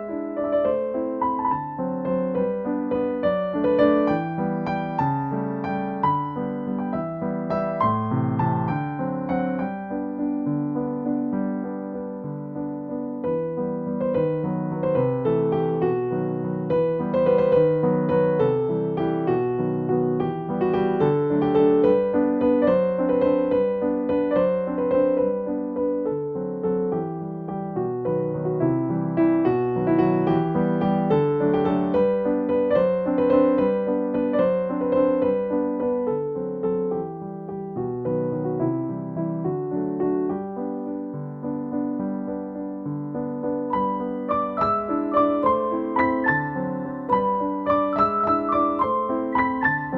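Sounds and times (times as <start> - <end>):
gentle electric piano music: 0.0 - 49.9.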